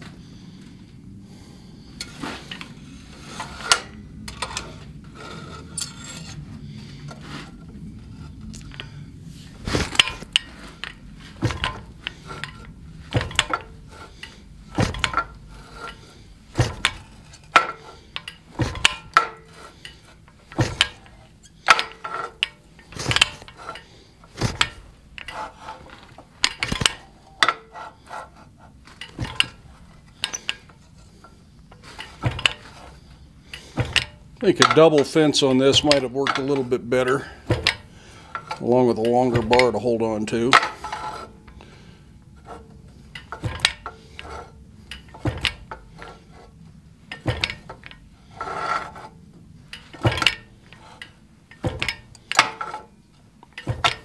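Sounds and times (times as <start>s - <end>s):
fly press clanking on metal: 1.9s - 7.5s, 9.6s - 54.0s.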